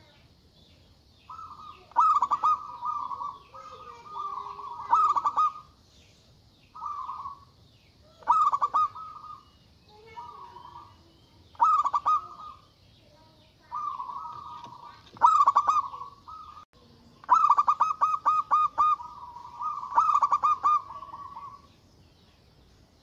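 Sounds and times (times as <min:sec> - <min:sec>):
dove cooing: 0:01.3 - 0:05.8, 0:06.8 - 0:12.7, 0:13.6 - 0:21.8.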